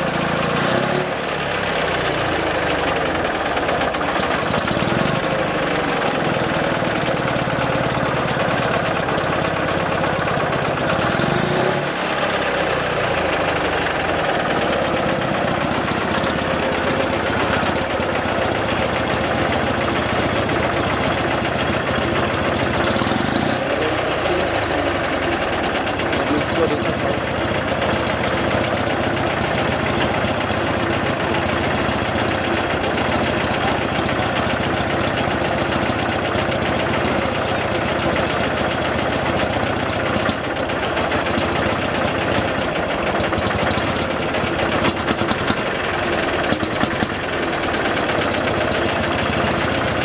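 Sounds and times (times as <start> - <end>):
tractor engine idling: 0.0 - 50.0.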